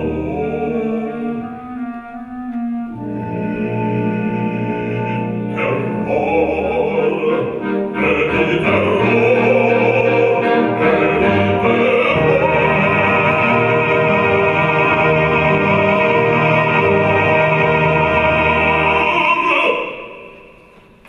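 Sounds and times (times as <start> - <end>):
wind orchestra playing: 0.0 - 20.5.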